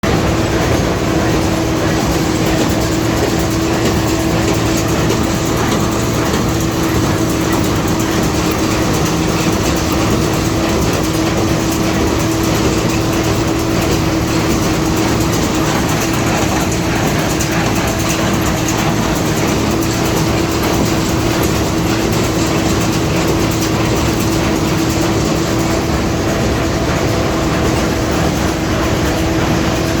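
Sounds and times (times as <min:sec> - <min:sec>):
hay baler clattering and humming: 0:00.0 - 0:30.0.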